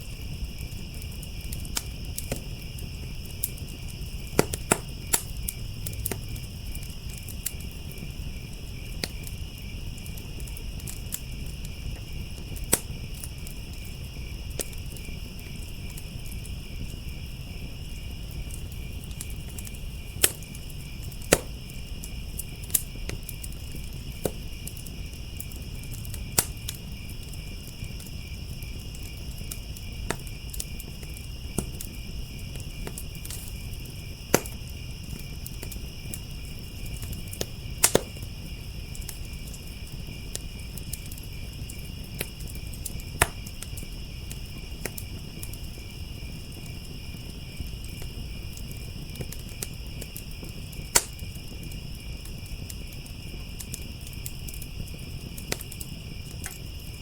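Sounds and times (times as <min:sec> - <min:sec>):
crickets trilling: 0:00.0 - 0:57.0
wood fire crackling and popping: 0:00.0 - 0:57.0.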